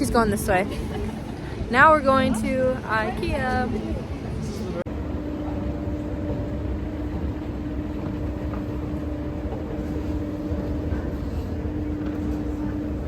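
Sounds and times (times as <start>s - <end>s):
mid-pitched hum: 0.0s - 13.0s.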